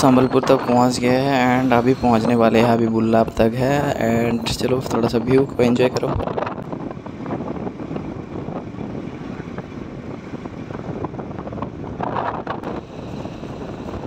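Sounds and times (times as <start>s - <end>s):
motorcycle road noise: 0.0s - 14.0s
wind rushing over microphone: 0.0s - 14.0s.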